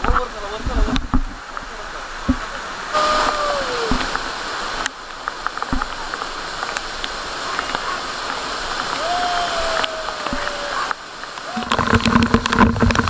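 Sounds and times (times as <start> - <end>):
loud hissing rush: 0.4 - 13.0.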